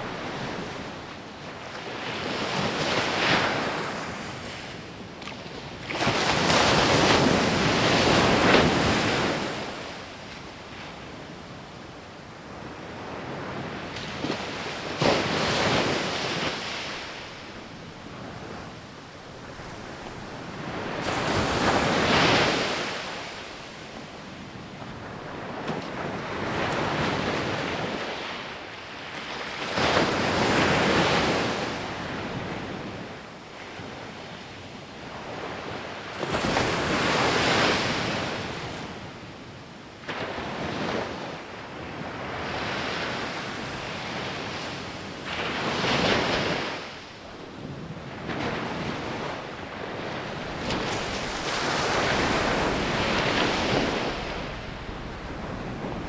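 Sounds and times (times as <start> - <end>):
ocean waves washing up a beach: 0.0 - 11.4, 12.1 - 56.0.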